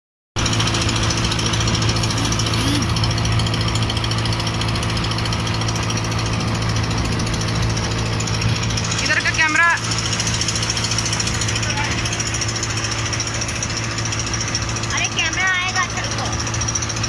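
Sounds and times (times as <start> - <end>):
motor boat engine rattling: 0.4 - 17.0.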